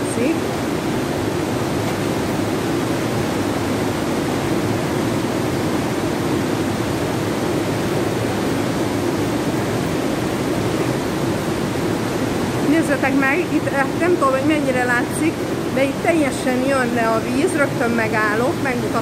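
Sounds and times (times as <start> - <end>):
water rushing through gorge: 0.0 - 19.0.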